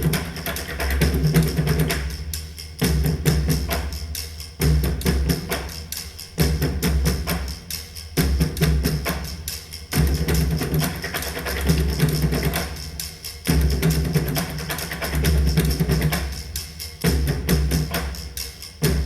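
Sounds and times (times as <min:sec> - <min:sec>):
drum and percussion music: 0:00.0 - 0:19.0.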